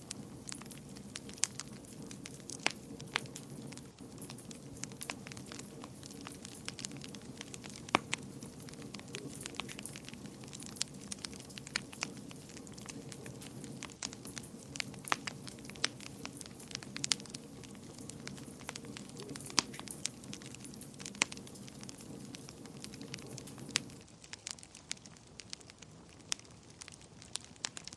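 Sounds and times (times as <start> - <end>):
low rush of flame: 0.0 - 27.9
wood fire crackling: 0.0 - 27.9.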